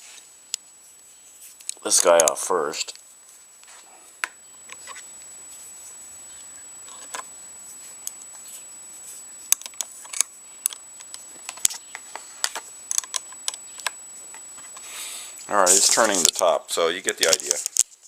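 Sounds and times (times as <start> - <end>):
faint high whine: 0.0 - 18.0.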